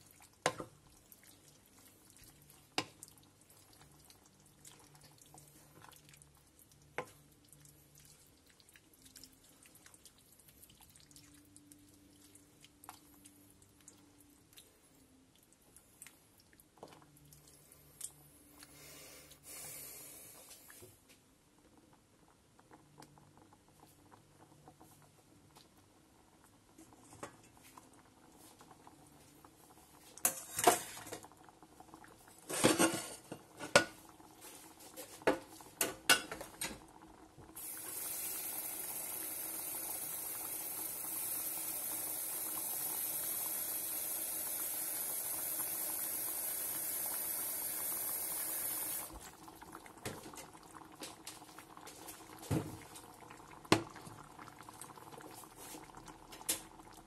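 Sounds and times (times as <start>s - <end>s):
sauce bubbling in a pan: 0.0s - 18.6s, 21.6s - 57.0s.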